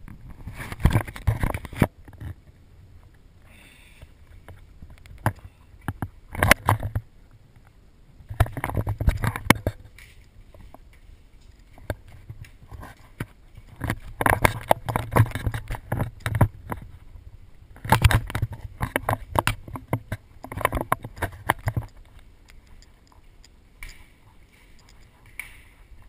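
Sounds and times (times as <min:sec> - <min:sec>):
rustling and knocking handling noise: 0:00.0 - 0:03.2, 0:04.2 - 0:26.0.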